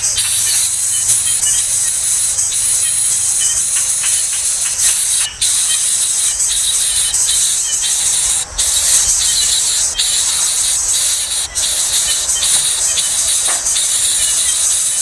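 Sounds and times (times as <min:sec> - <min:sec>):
loud high-pitched hiss: 0:00.0 - 0:15.0.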